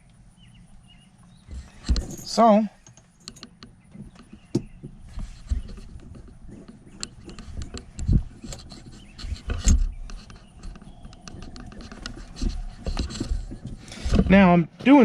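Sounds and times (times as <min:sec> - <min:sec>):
dull handling thumps: 0:01.4 - 0:02.5, 0:03.7 - 0:15.0.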